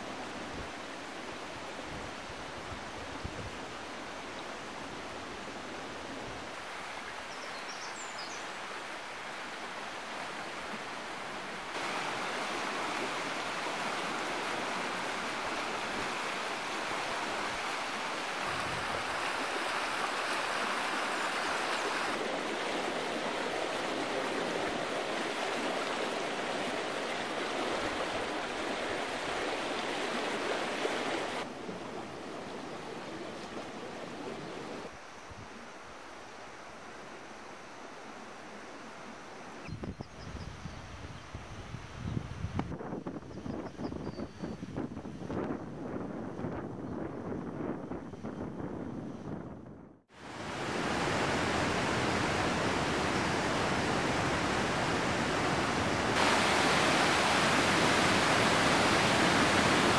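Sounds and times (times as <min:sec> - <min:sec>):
water rushing in a stream: 0:00.0 - 0:39.6, 0:50.1 - 0:59.9.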